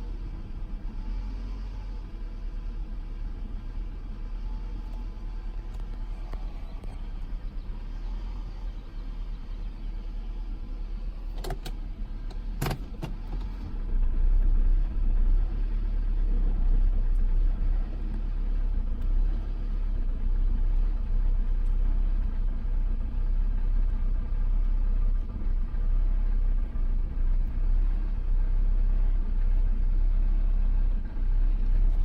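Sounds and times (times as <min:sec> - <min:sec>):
car engine misfiring at low rpm: 0:00.0 - 0:32.0.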